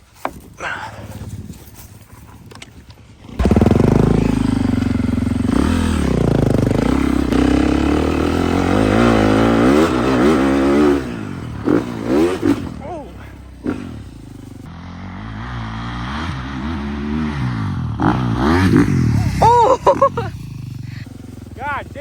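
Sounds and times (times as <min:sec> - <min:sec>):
atv engine revving: 0:02.5 - 0:22.0.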